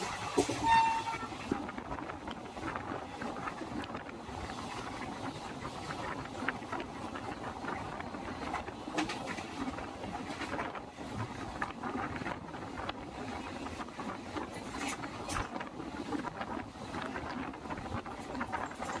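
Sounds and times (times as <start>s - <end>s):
train rumble: 0.0s - 19.0s
wind noise: 0.0s - 19.0s.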